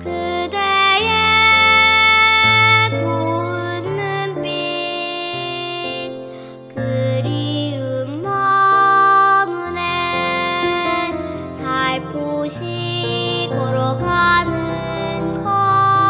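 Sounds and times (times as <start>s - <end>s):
children's song melody: 0.0s - 16.0s.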